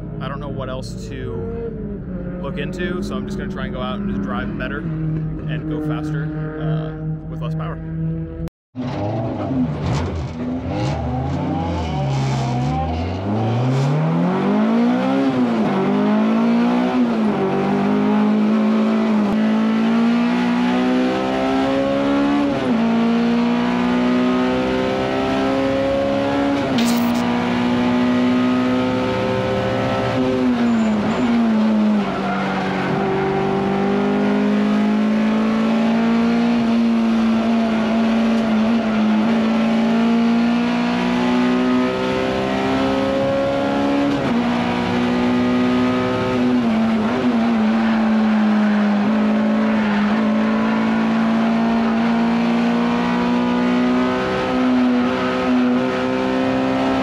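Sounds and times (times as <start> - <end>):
race car engine accelerating: 0.1 - 57.0.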